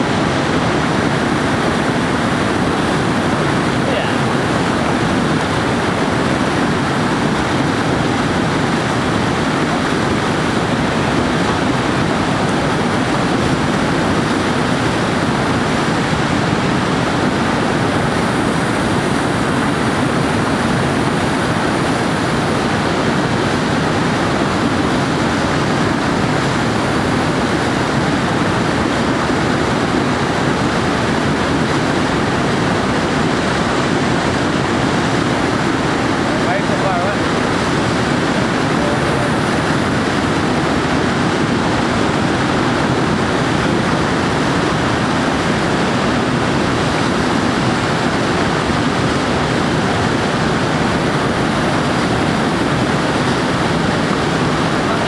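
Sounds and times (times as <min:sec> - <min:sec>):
whitewater roar: 0:00.0 - 0:55.0.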